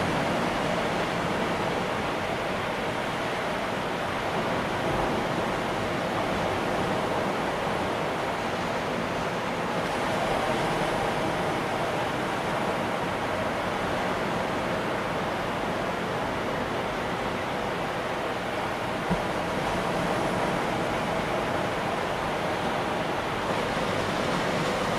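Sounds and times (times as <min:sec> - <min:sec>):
ocean waves breaking: 0:00.0 - 0:24.9.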